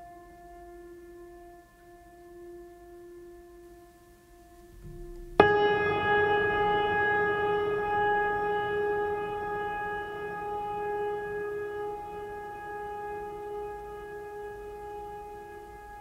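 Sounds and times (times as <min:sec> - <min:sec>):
music of long held tones: 0:00.0 - 0:16.0.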